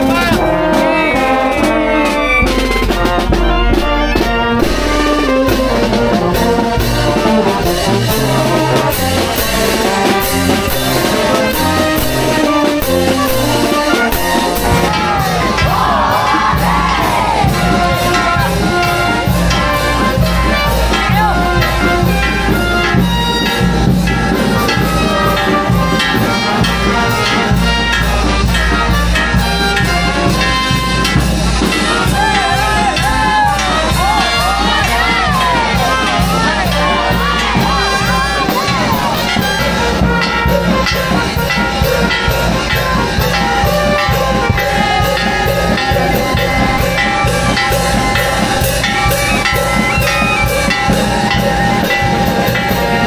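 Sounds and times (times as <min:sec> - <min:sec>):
brass band music: 0:00.0 - 0:53.0.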